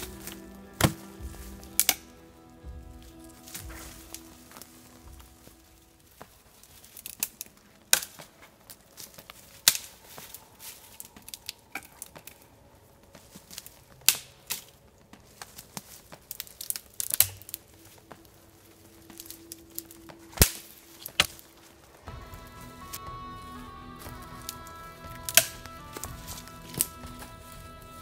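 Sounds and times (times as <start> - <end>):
dry twigs snapping: 0.0 - 2.1, 3.0 - 22.1, 24.0 - 27.6.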